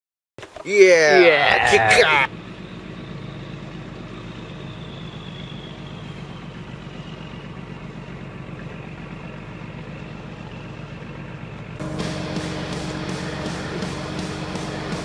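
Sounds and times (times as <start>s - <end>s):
engine idling drone: 0.8s - 15.0s.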